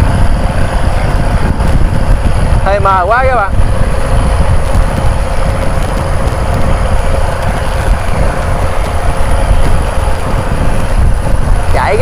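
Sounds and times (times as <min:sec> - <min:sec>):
boat diesel engines droning: 0:00.0 - 0:12.0
water rushing along hulls: 0:00.0 - 0:12.0.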